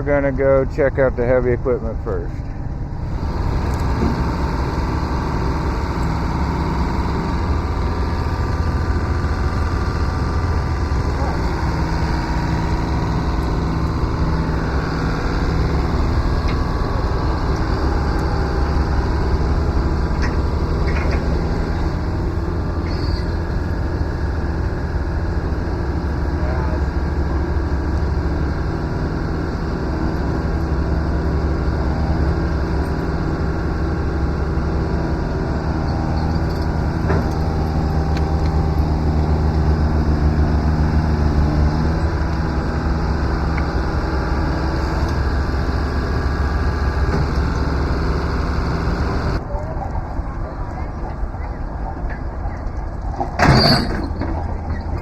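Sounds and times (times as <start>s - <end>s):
heavy machine engine drone: 0.0s - 55.0s.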